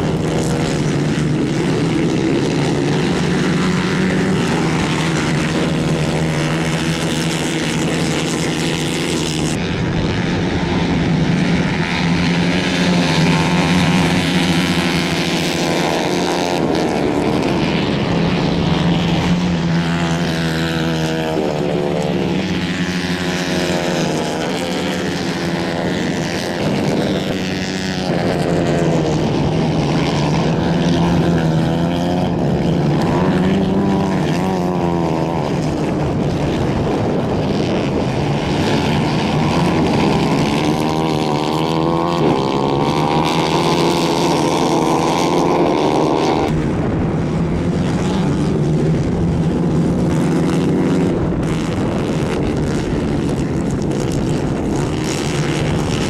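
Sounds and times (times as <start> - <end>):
racing kart engines buzzing: 0.0 - 56.0.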